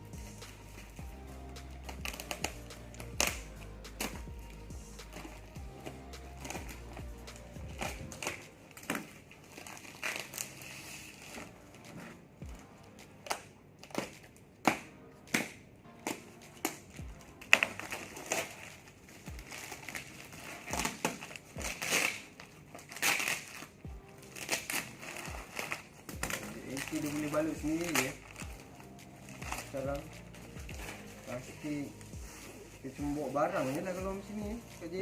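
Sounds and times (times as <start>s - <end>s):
plastic wrapping being torn open: 1.8s - 12.1s, 12.8s - 35.0s.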